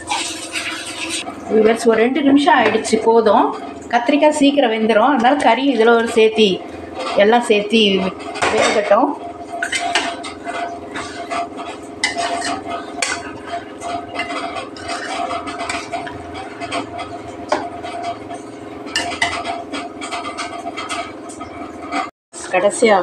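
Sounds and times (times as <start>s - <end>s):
metal ladle scraping a pan: 0.0s - 1.3s, 2.0s - 22.7s
steady hum: 0.0s - 23.0s.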